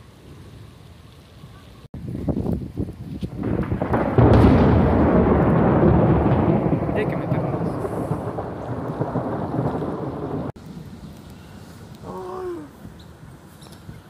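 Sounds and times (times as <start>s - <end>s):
thunderclap with low rumble: 1.9s - 14.0s.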